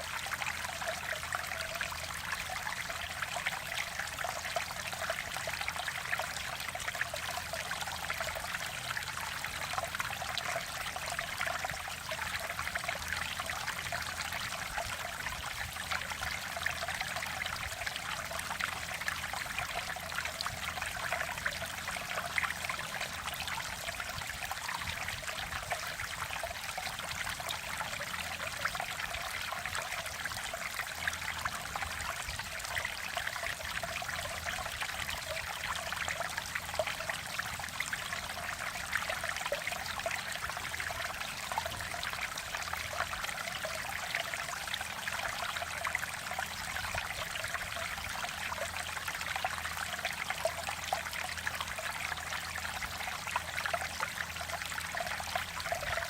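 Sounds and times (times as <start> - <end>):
stream water flowing over rocks: 0.0 - 56.0.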